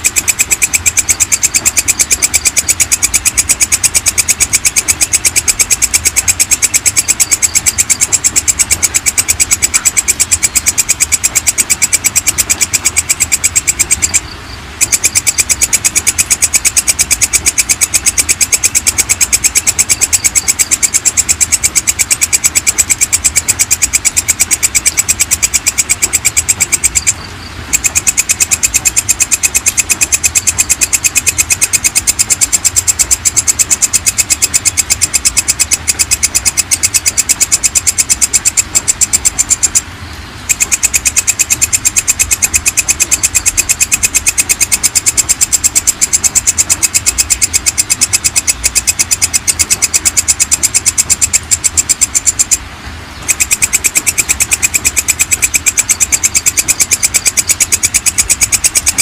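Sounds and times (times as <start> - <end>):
katydid chirping: 0.0 - 52.6, 53.2 - 59.0.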